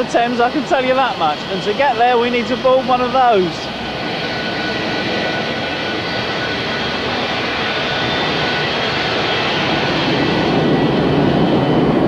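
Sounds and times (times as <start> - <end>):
high-pitched engine whines: 0.0 - 12.0
jet engines rushing: 0.0 - 12.0.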